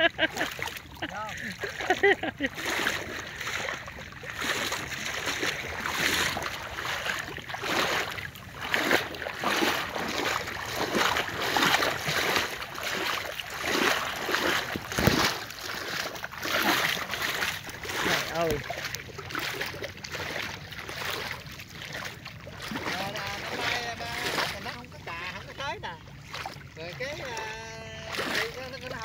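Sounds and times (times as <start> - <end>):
person wading through water: 0.0 - 29.0.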